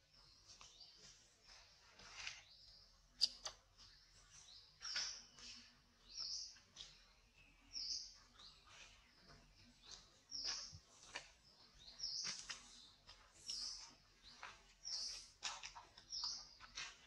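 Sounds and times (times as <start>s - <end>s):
bird high chirp: 0.1s - 17.0s.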